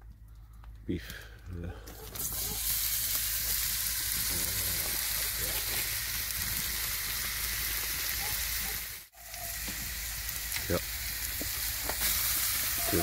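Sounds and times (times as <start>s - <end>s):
beef sizzling in a frying pan: 2.1s - 13.0s.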